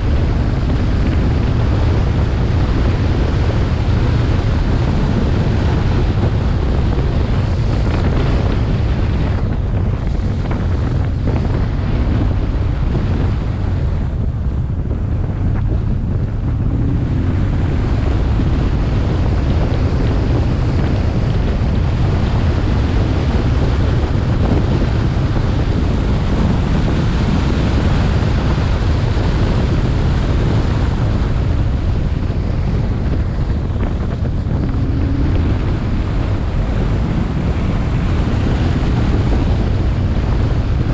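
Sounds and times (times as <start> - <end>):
wind roaring on microphone: 0.0 - 40.9.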